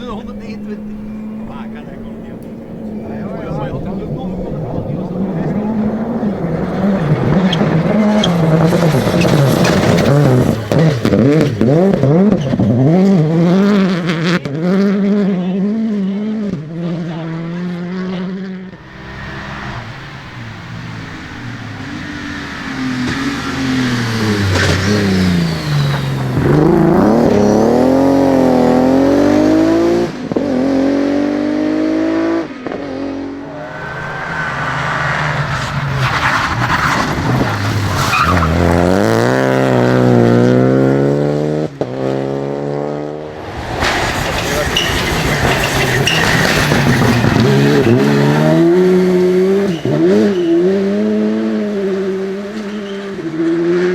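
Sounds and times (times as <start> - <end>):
tyres skidding: 0.0 - 14.6, 16.6 - 53.9
rally car engines revving: 0.0 - 53.9.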